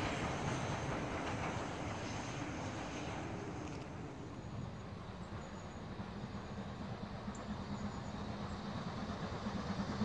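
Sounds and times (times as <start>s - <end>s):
distant steam train running: 0.0s - 10.0s.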